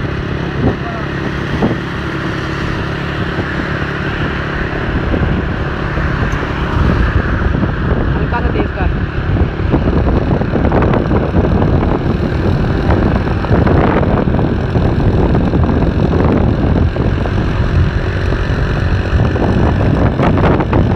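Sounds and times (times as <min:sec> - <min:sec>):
car engine and road noise: 0:00.0 - 0:20.9.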